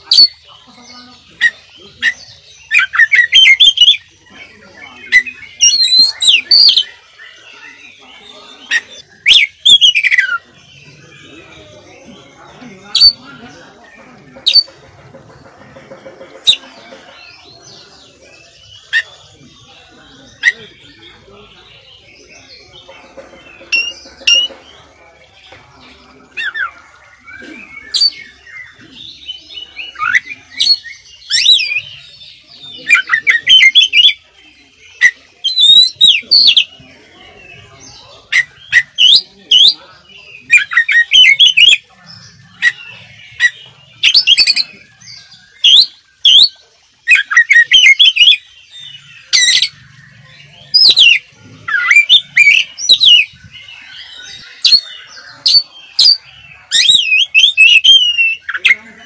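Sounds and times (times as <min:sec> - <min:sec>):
bird singing whistles and chatter: 0:00.0 - 0:59.0.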